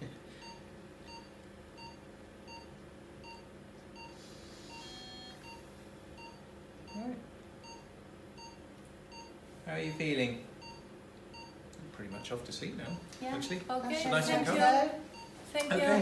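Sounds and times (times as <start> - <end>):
patient monitor beeping: 0.4 - 13.1, 14.1 - 15.4.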